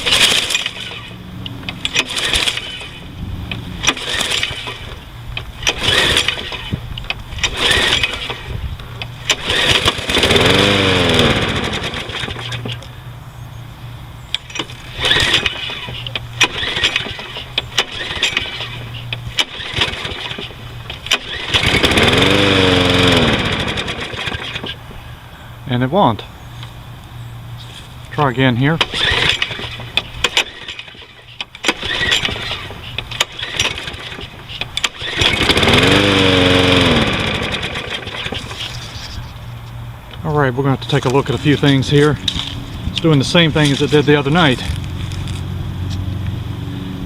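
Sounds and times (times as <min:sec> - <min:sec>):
lawn mower engine running roughly: 0:00.0 - 0:25.1, 0:27.8 - 0:46.1.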